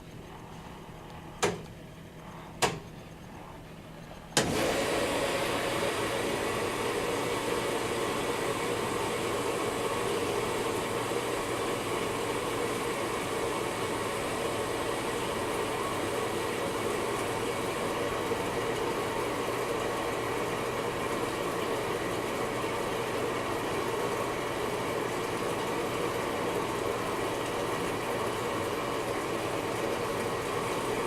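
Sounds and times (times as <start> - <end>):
washing machine running: 0.0 - 31.0.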